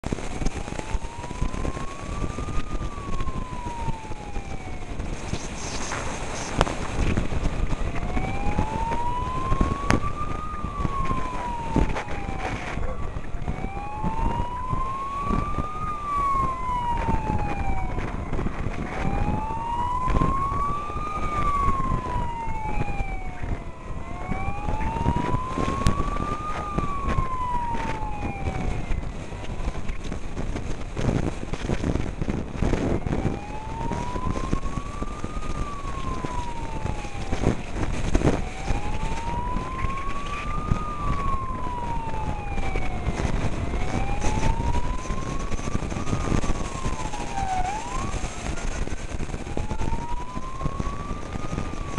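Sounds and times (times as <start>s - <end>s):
road and wind noise: 0.0s - 51.9s
wailing emergency siren: 0.0s - 51.9s
higher fainter siren: 0.1s - 51.9s.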